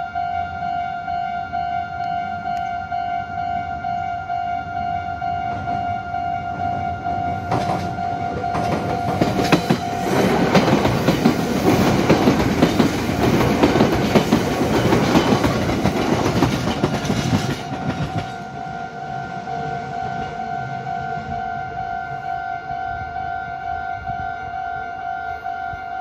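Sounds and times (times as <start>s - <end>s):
level crossing warning bell: 0.0s - 26.0s
train rumbling past: 0.0s - 26.0s.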